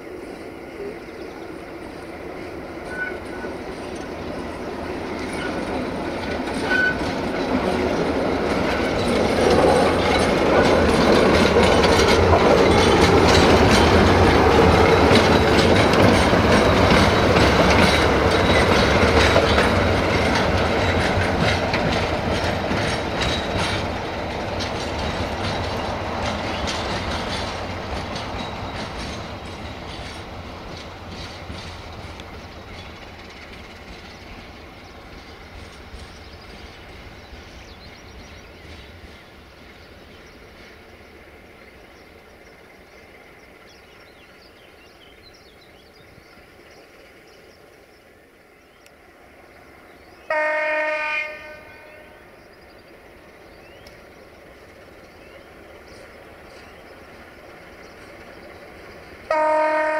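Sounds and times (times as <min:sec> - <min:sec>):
diesel train passing: 0:00.0 - 0:59.9
wheels clacking over rail joints: 0:01.8 - 0:48.0, 0:52.7 - 0:59.9.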